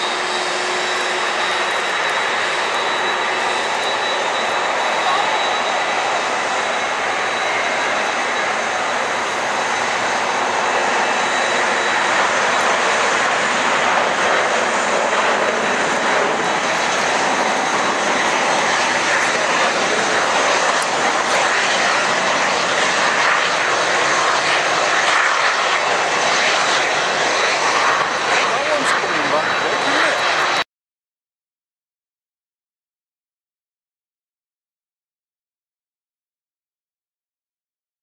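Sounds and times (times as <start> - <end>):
faint high whine: 0.0 - 30.5
jet engines rushing: 0.0 - 30.6.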